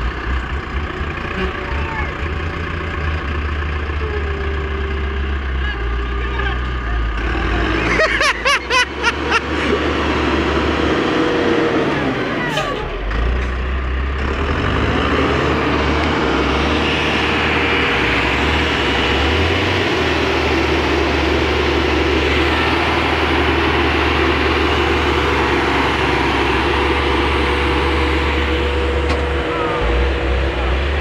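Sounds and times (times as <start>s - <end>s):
heavy tractor engines under load: 0.0s - 31.0s.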